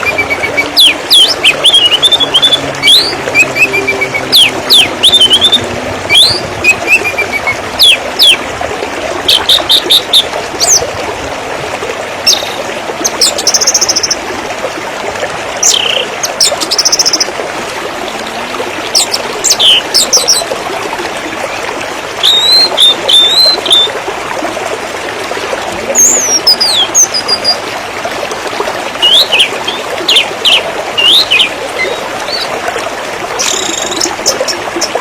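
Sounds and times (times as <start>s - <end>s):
trickle of running water: 0.0s - 35.0s.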